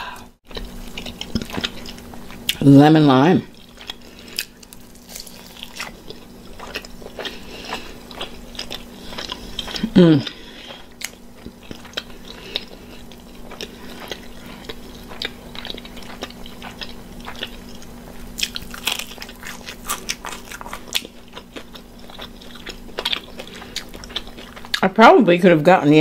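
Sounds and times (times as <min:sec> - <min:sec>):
person chewing crunchy food: 0:00.0 - 0:02.6, 0:03.4 - 0:24.8.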